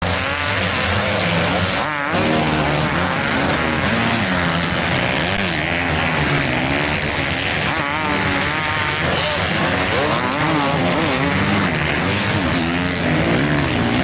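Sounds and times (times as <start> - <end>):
motorbike engines revving: 0.0 - 14.0.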